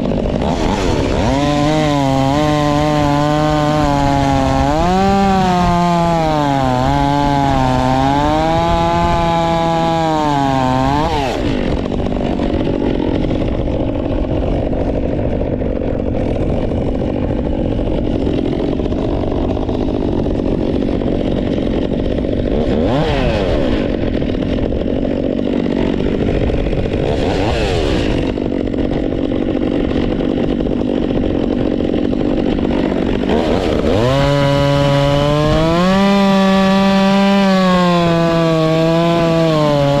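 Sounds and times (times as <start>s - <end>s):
chainsaw revving and cutting wood: 0.0s - 40.0s.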